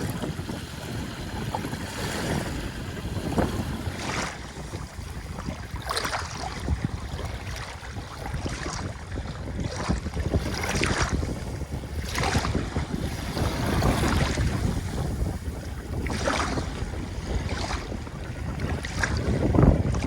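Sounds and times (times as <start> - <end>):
ocean waves splashing on shore: 0.0 - 20.0
wind rumble on microphone: 0.0 - 20.0.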